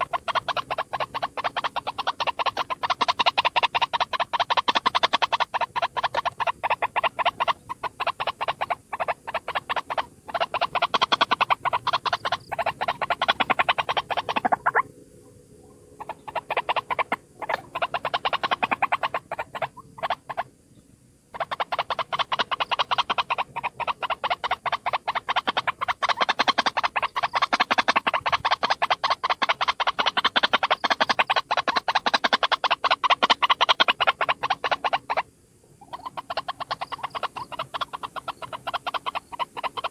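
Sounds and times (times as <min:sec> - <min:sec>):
waterhen calling: 0:00.0 - 0:14.9, 0:15.6 - 0:20.5, 0:21.3 - 0:39.9.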